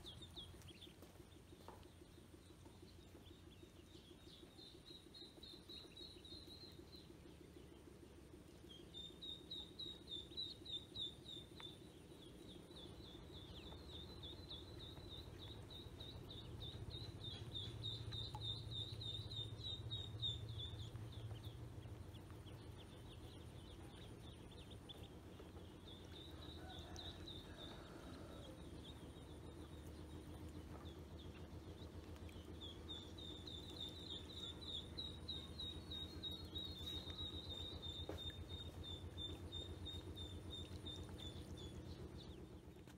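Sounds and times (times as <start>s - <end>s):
ducklings peeping: 0.0s - 42.9s
faint low hum: 0.0s - 42.9s.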